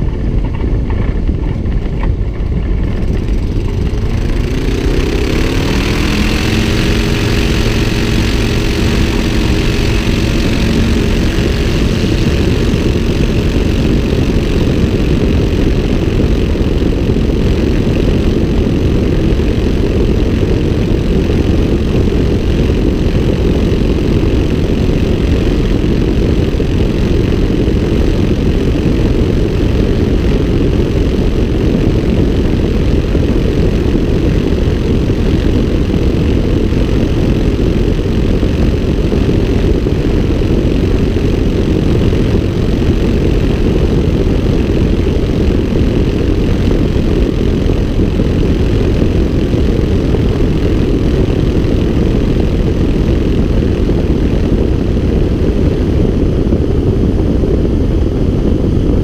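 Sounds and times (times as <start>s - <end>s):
airplane engine and propeller: 0.0s - 59.0s
wind rush: 0.0s - 59.0s.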